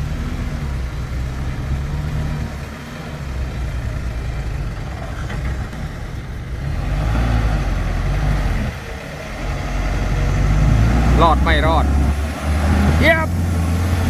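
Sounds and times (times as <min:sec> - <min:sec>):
dump truck engine under load: 0:00.0 - 0:14.0.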